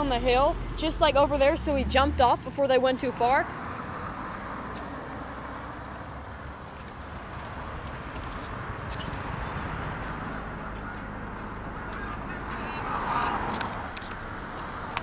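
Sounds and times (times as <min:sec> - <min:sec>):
distant traffic rush: 0:00.0 - 0:15.0.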